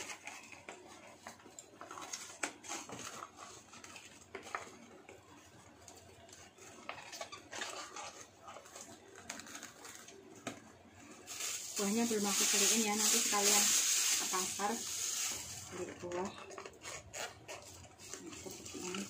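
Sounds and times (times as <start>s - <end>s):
plastic crinkling: 0.0s - 19.0s.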